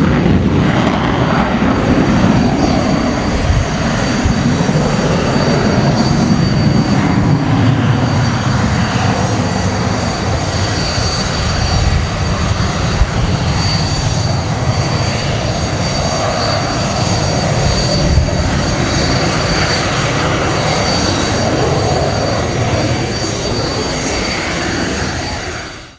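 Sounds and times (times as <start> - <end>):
jet engine roar: 0.0 - 25.9.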